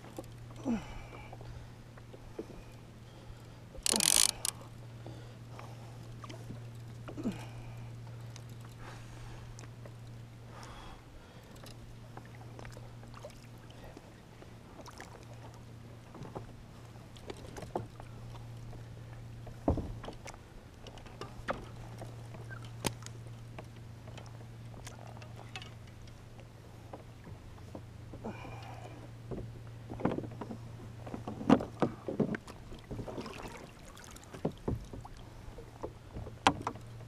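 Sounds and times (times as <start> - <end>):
steady low hum: 0.0 - 37.0
water lapping against hull: 0.0 - 37.0.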